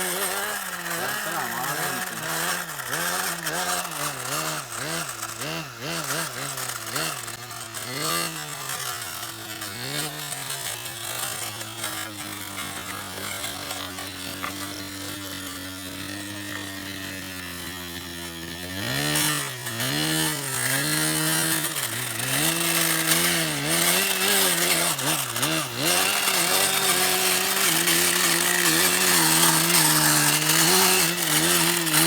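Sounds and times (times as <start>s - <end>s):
model engine revving: 0.0s - 32.0s.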